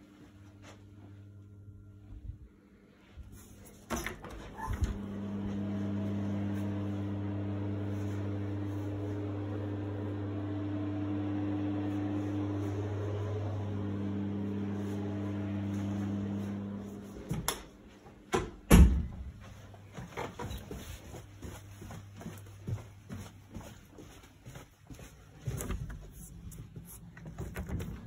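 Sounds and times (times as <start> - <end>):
extractor fan humming: 4.1 - 18.9, 19.7 - 28.0.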